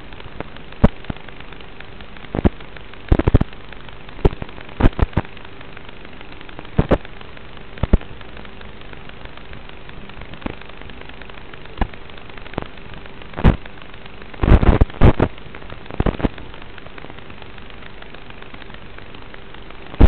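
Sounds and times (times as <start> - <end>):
faint hum: 0.0 - 20.0
radio static hiss: 0.0 - 20.0
sharp crackling pops: 0.0 - 20.0.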